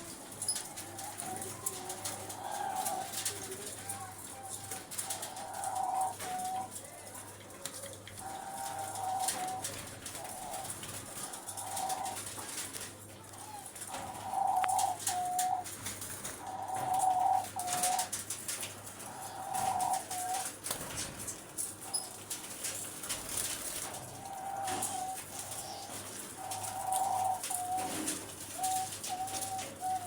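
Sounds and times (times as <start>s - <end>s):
doves cooing: 0.0s - 30.0s.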